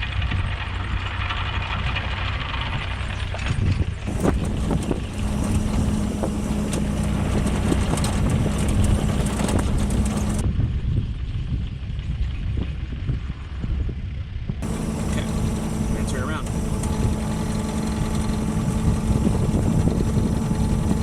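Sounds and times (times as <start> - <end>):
low hum: 0.0 - 21.0
wind buffeting microphone: 0.0 - 21.0.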